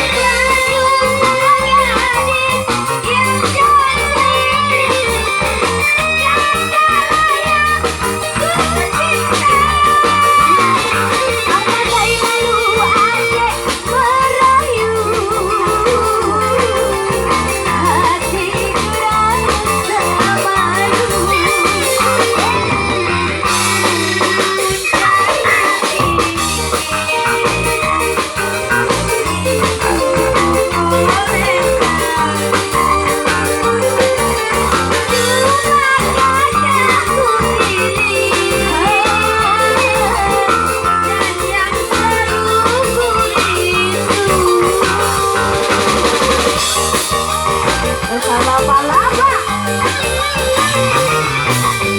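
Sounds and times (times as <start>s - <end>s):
bass: 0.0s - 51.9s
drums: 0.0s - 51.9s
guitar: 0.0s - 51.9s
person singing: 0.0s - 51.9s.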